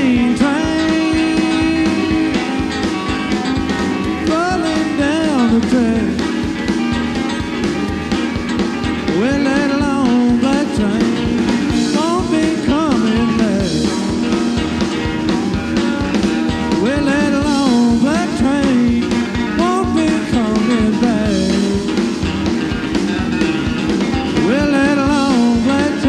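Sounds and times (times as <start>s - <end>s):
electric guitar bending notes: 0.0s - 26.0s
rock band playing live: 0.0s - 26.0s.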